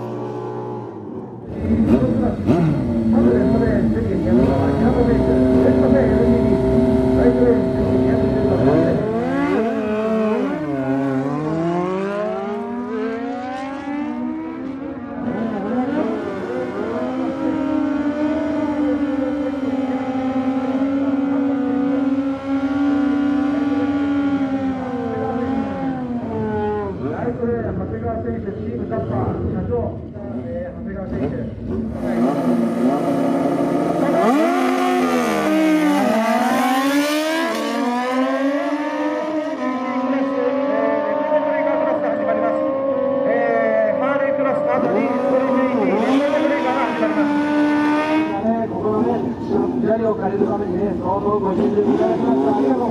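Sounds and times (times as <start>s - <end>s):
motorcycle engines revving: 0.0s - 52.9s.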